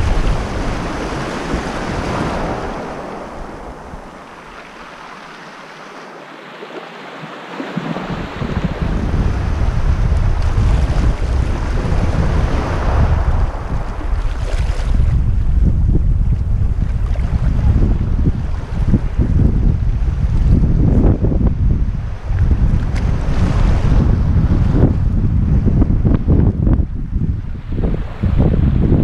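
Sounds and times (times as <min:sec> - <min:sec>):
wind buffeting microphone: 0:00.0 - 0:04.8, 0:07.6 - 0:29.0
small waves washing onto beach: 0:00.0 - 0:25.7.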